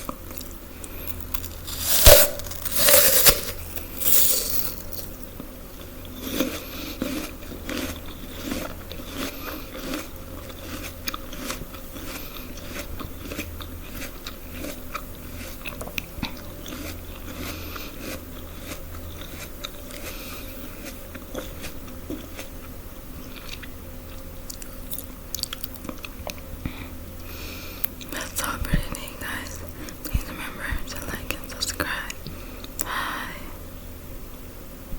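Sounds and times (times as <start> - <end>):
person chewing crunchy food: 0.0 - 28.6.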